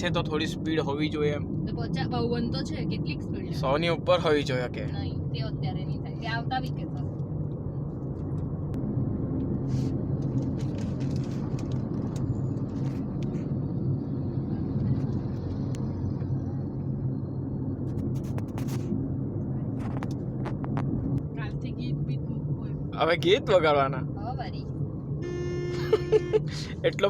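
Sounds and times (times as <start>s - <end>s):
car engine and tyre hum: 0.0s - 27.0s.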